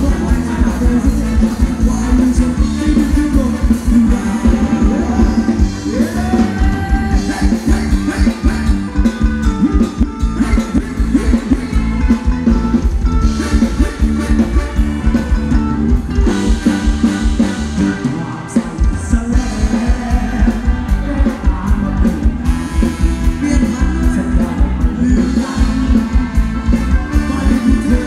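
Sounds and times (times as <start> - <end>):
live band dance music: 0.0 - 28.0
person singing: 0.0 - 28.0
steady drum beat: 0.0 - 28.0.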